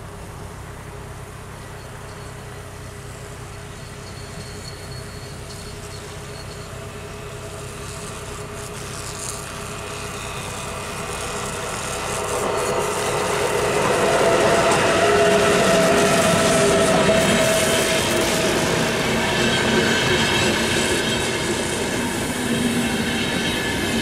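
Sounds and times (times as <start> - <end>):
steady train whine: 0.0 - 24.0
train wheels on rails: 0.0 - 24.0.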